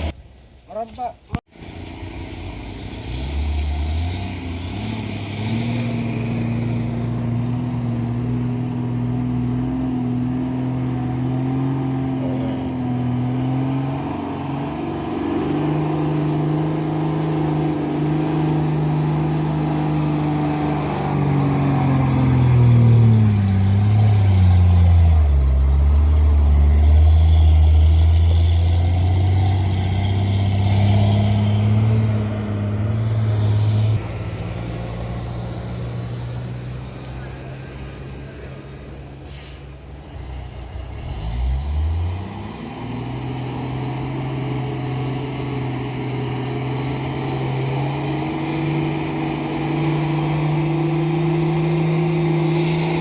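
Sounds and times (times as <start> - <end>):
diesel truck engine climbing: 1.5 - 53.0.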